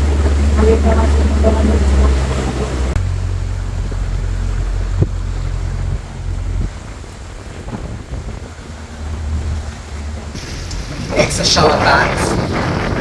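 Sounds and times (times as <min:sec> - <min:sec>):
boat engine: 0:00.0 - 0:13.0
wind rumble on microphone: 0:00.0 - 0:13.0.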